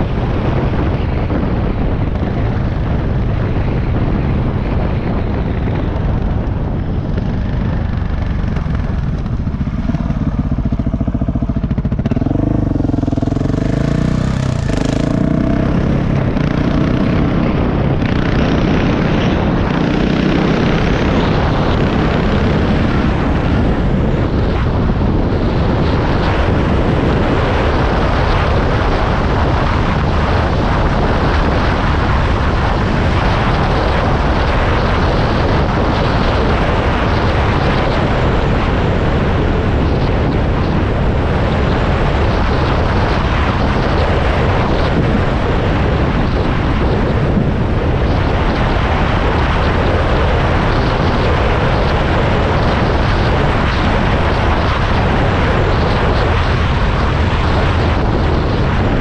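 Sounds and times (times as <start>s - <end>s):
heavy rumble and rush: 0.0s - 59.0s
vehicle engine running: 1.6s - 59.0s.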